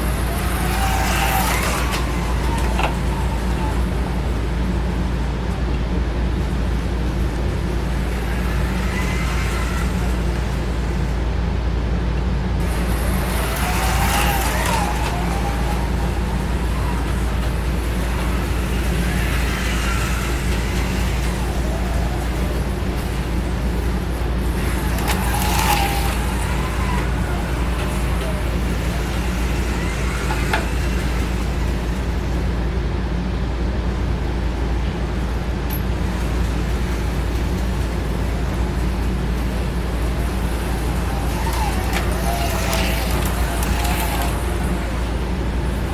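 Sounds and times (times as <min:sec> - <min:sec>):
slot car motors whining: 0:00.0 - 0:45.9
steady low hum: 0:00.0 - 0:45.9.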